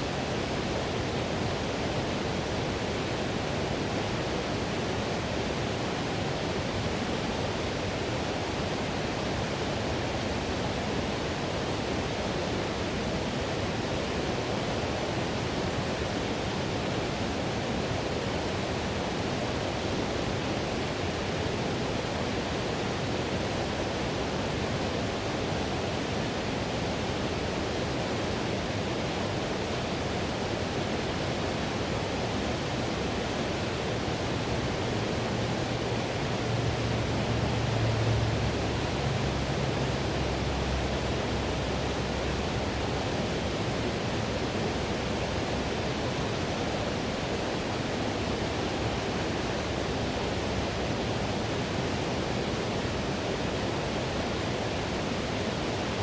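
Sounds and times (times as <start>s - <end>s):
whitewater river rushing: 0.0s - 56.0s.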